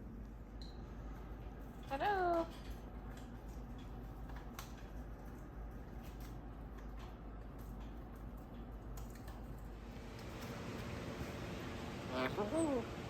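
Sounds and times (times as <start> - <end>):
low steady hum: 0.0 - 13.0
parrots chewing vegetables: 1.0 - 12.8.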